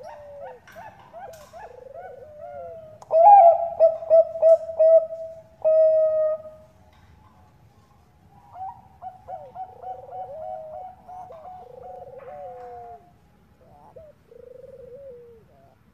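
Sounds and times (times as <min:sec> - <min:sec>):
dove cooing: 0:00.0 - 0:06.8, 0:08.4 - 0:15.9.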